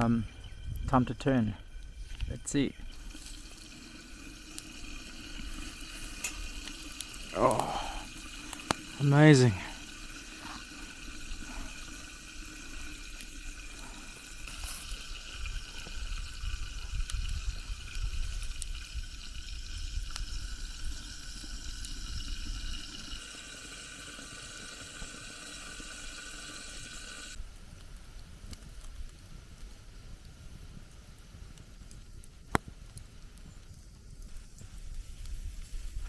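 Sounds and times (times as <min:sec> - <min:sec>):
meat skewers sizzling over coals: 0:01.7 - 0:36.0.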